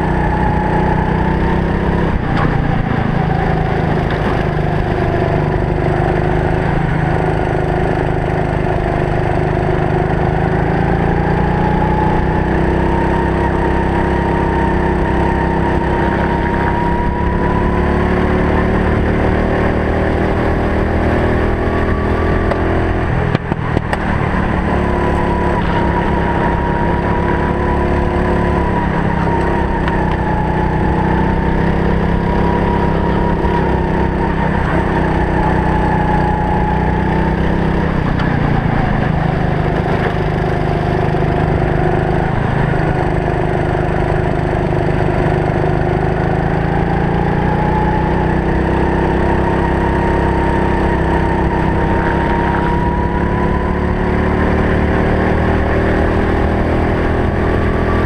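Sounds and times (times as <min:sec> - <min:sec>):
kart engine at high revs: 0:00.0 - 0:58.0.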